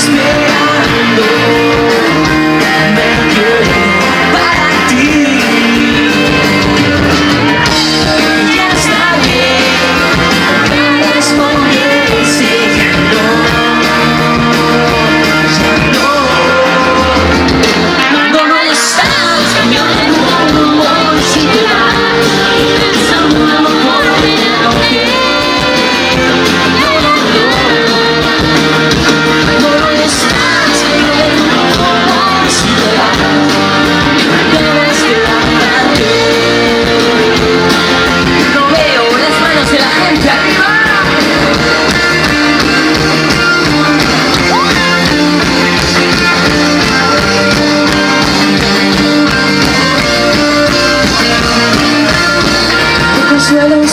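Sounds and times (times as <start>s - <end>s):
live rock band playing: 0.0s - 53.9s
person singing: 0.0s - 53.9s.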